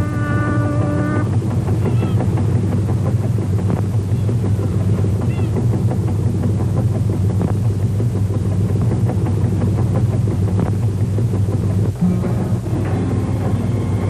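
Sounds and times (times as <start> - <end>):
ship engine throbbing: 0.0 - 14.0.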